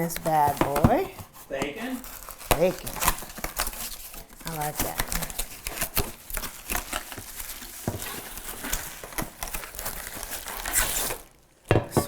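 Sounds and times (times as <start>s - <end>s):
packaging crinkling: 0.0s - 11.7s.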